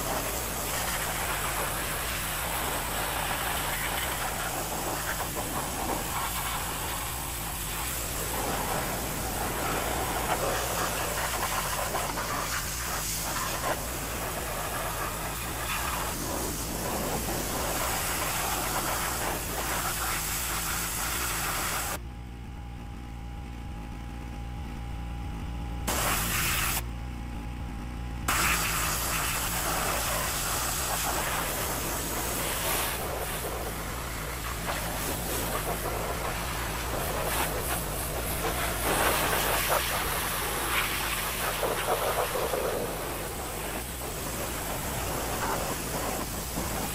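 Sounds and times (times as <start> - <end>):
pressure washer spray hissing: 0.0 - 22.0, 25.9 - 26.8, 28.3 - 46.9
steady machine hum: 0.0 - 46.9.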